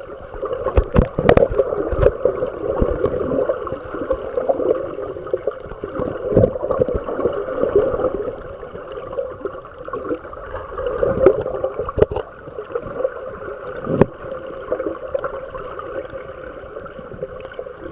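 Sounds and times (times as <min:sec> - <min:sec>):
river water gurgling: 0:00.0 - 0:17.9.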